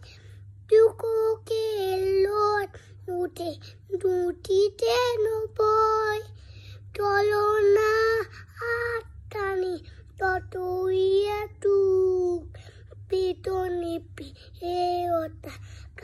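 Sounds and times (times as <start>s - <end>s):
child singing: 0.7s - 6.3s, 6.9s - 12.5s, 13.1s - 16.0s.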